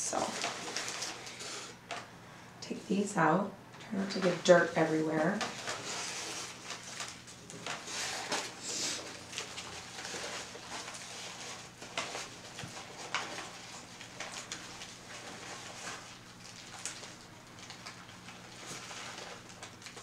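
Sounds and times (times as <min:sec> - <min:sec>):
newspaper rustling and crinkling: 0:00.0 - 0:02.0, 0:04.1 - 0:20.0.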